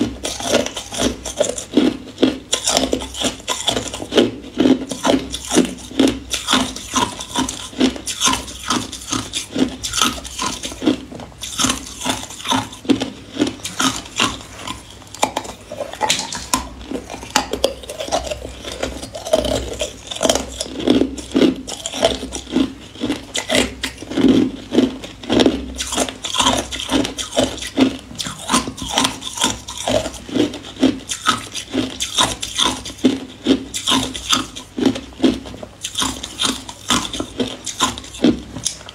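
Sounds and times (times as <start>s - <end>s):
ice cubes crunching: 0.0s - 38.9s.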